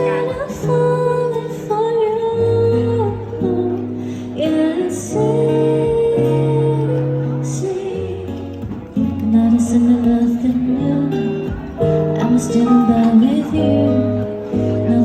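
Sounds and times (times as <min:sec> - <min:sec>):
guitar accompaniment: 0:00.0 - 0:15.0
woman singing slow song: 0:00.0 - 0:15.0.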